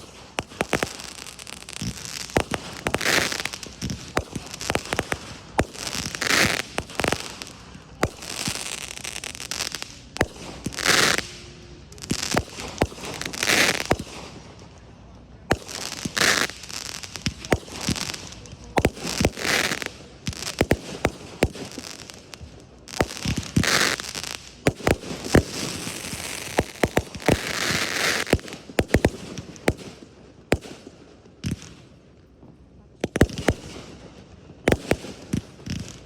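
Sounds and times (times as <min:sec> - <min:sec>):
fireworks rushing noise: 0:00.0 - 0:31.9, 0:33.0 - 0:36.0
fireworks bursting bangs: 0:00.0 - 0:32.0, 0:33.0 - 0:36.0.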